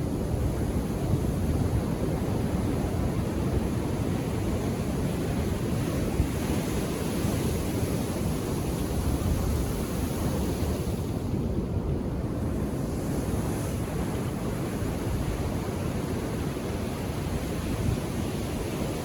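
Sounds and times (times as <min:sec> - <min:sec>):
calm waves washing ashore: 0:00.0 - 0:19.0.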